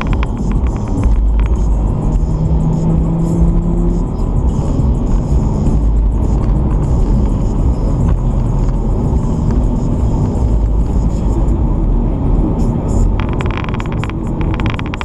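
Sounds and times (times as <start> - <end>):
car engine and tyre rumble in cabin: 0.0 - 15.0.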